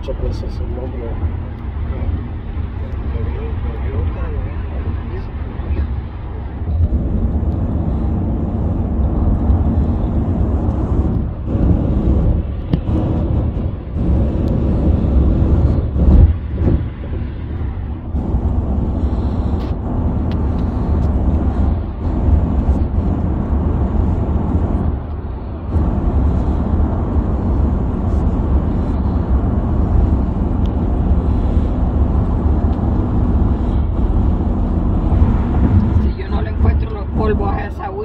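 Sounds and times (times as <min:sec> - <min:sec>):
car road rumble and engine hum: 0:00.0 - 0:38.0.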